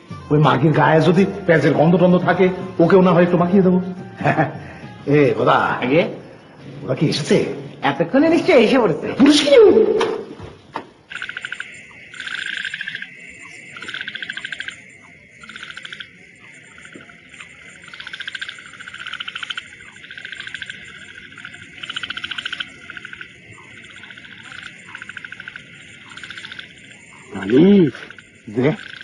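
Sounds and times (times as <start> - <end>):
insects and frogs trilling: 0.0 - 29.0.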